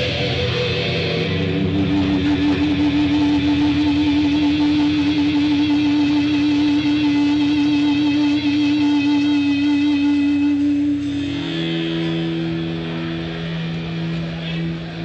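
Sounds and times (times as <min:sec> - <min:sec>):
electric guitar: 0:00.0 - 0:15.0.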